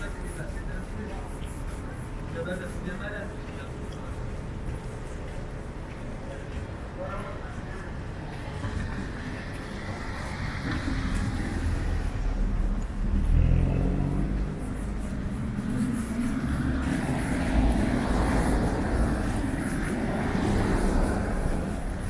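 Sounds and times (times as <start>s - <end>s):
car traffic on snowy street: 0.0s - 22.0s.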